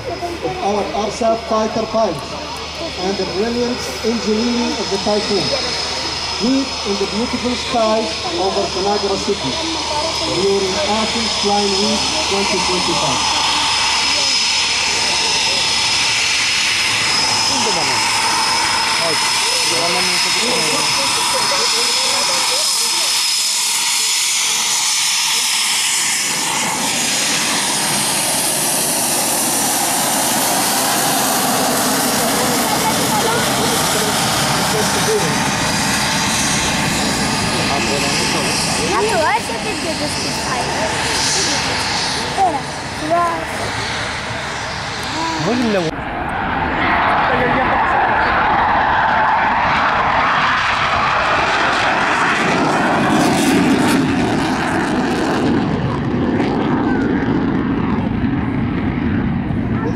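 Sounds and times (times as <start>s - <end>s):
fighter jet engines running: 0.0s - 59.9s.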